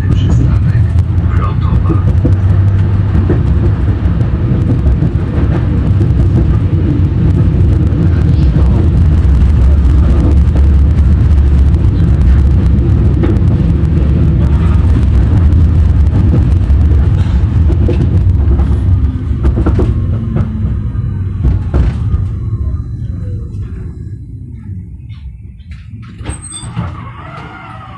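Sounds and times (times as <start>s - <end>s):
wheels knocking over rail joints: 0.0s - 22.4s
braking whine: 0.0s - 27.9s
tram rumbling on track: 0.0s - 27.9s.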